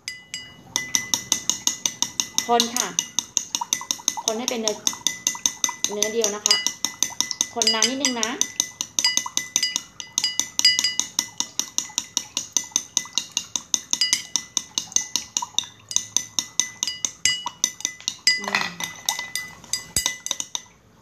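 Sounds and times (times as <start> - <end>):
stirrer clinking against glass: 0.0 - 20.8.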